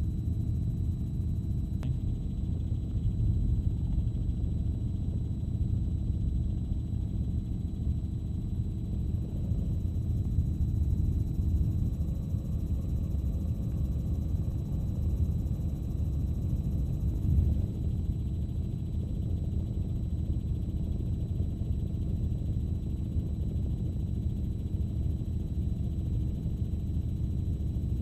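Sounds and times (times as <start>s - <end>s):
helicopter engine and rotor rumble: 0.0s - 28.0s.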